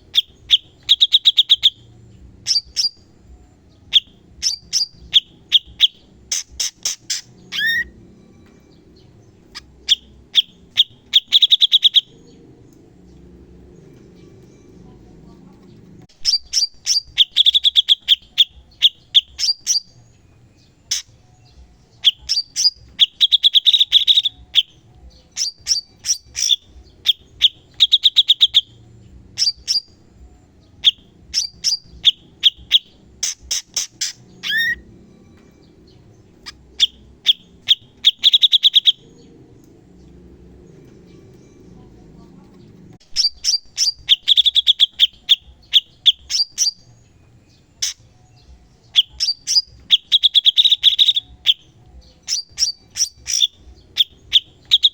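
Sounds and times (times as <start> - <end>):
songbird singing rapid trills: 0.0 - 54.9.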